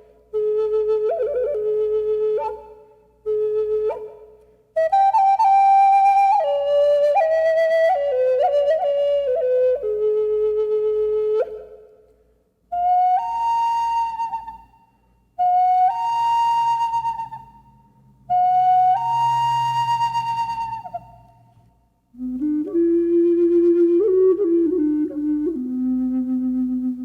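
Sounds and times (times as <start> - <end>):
solo flute melody: 0.0 - 27.0.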